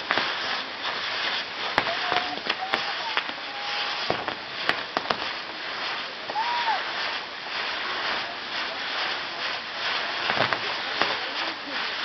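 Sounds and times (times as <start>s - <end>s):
fireworks wheel hissing and crackling: 0.0s - 12.0s.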